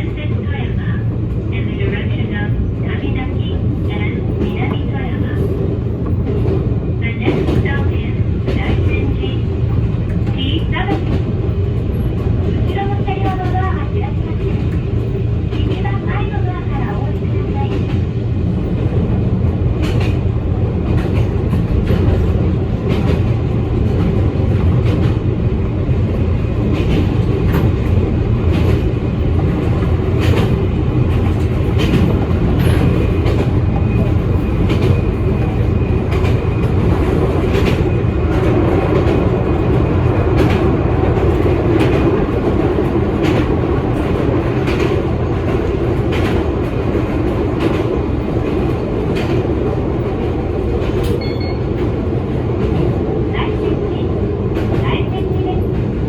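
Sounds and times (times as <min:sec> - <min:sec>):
train rumble from inside: 0:00.0 - 0:56.0.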